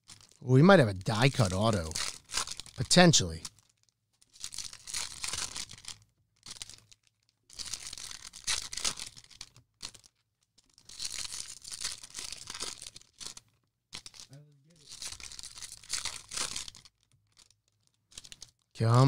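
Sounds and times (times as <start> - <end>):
foil wrappers crinkling and tearing: 0.0 - 19.0.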